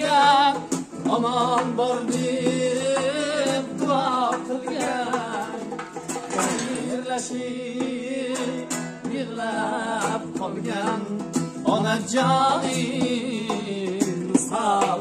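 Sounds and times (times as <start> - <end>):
instrumental accompaniment: 0.0 - 15.0
person singing ornamented melody: 0.0 - 15.0.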